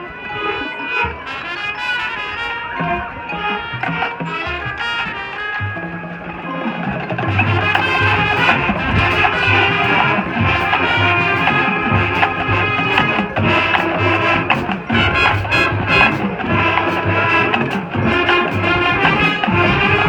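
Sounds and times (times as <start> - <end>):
marching band brass: 0.0 - 20.0
drumline beat: 0.6 - 20.0.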